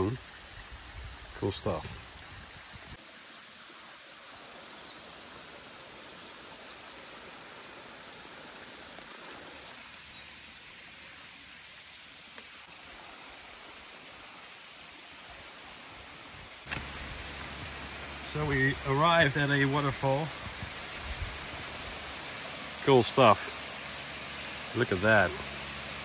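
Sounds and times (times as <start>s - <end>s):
rushing waterfall and stream: 0.0s - 26.0s.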